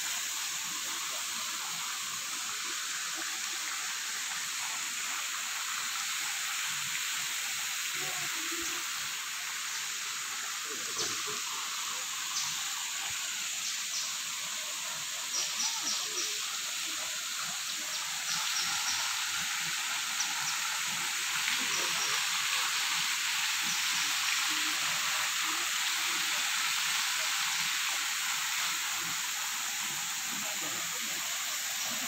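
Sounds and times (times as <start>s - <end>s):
forest ambience hiss: 0.0s - 32.0s.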